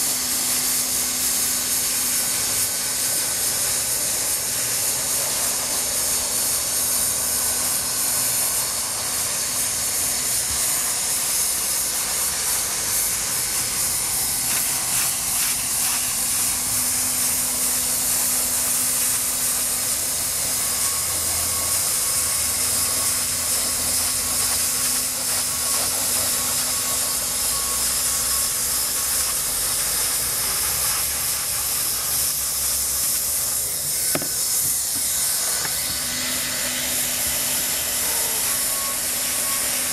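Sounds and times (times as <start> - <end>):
hot-air welder hissing: 0.0 - 39.9.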